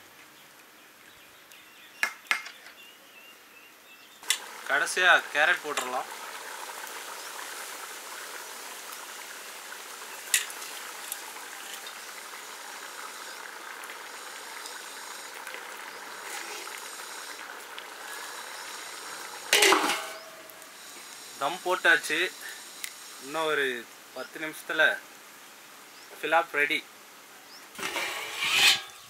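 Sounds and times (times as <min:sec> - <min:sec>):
pot simmering with a hiss: 0:04.2 - 0:29.0.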